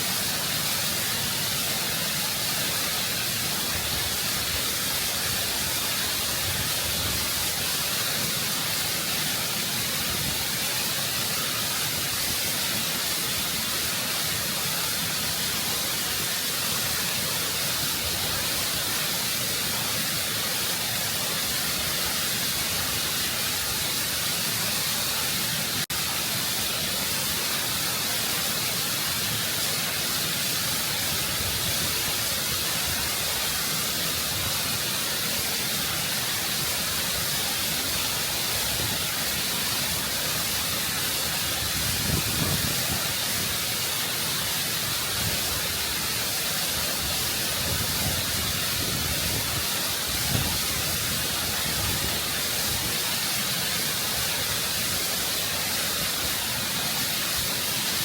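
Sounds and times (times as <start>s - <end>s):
waterfall rushing over rock: 0.0s - 58.0s.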